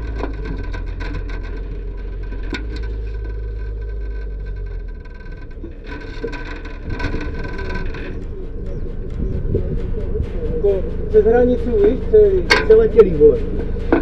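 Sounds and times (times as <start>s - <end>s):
car engine and road rumble: 0.0s - 14.0s
whining tones: 0.0s - 14.0s.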